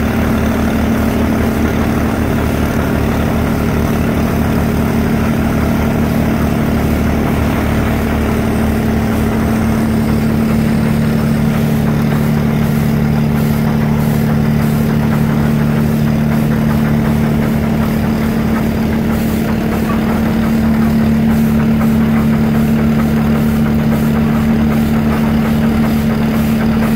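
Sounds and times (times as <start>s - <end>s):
heavy crane engine droning: 0.0s - 26.9s.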